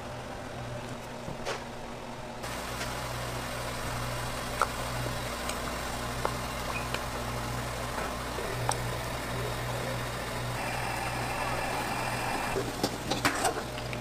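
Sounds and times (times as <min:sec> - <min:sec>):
kitchen equipment hum: 0:00.0 - 0:14.0
water boiling hard: 0:02.4 - 0:14.0.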